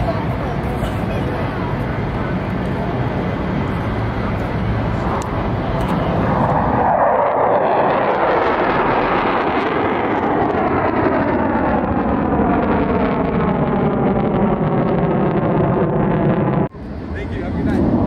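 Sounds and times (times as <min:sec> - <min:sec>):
jet aircraft passing overhead: 0:00.0 - 0:18.0.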